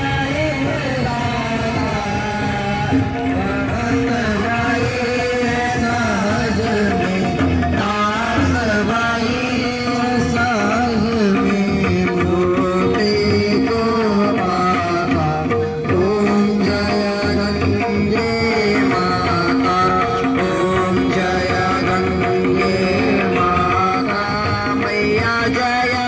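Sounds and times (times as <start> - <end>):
instrumental accompaniment: 0.0 - 26.0
person singing a melody: 0.0 - 26.0.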